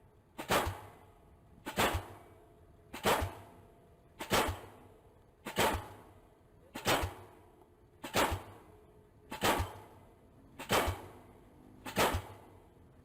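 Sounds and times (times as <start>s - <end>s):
pile-driving hammer striking steel: 0.4s - 3.6s, 4.2s - 7.4s, 8.0s - 12.6s.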